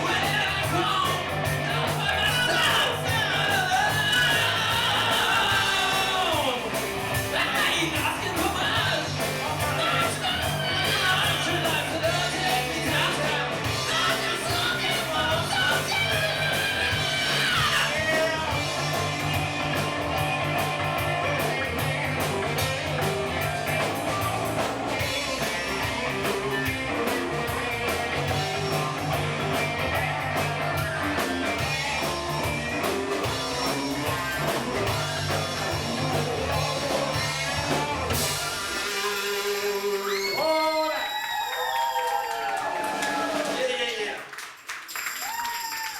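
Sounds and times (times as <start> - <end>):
live rock band playing: 0.0 - 40.8.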